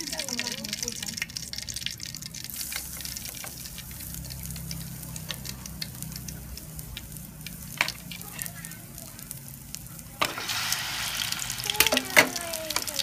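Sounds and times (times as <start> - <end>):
food sizzling in hot oil: 0.0 - 13.0
oil popping and crackling: 0.0 - 13.0.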